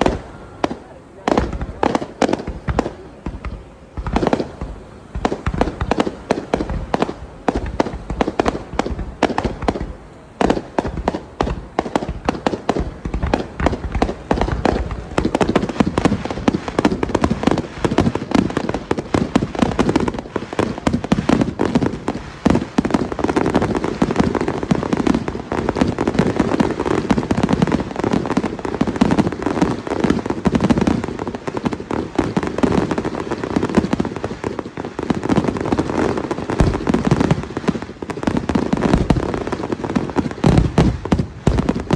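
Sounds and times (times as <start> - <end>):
fireworks bursts and bangs: 0.0 - 41.9.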